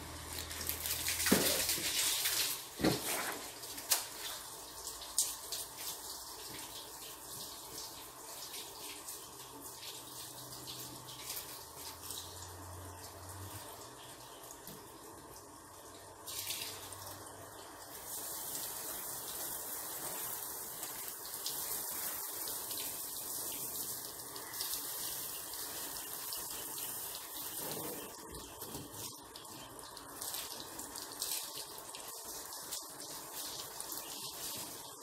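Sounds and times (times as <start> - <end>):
water running from hose: 0.0 - 35.0.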